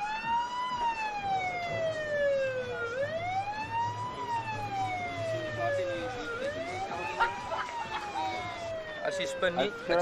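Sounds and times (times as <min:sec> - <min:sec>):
police siren wailing: 0:00.0 - 0:10.0.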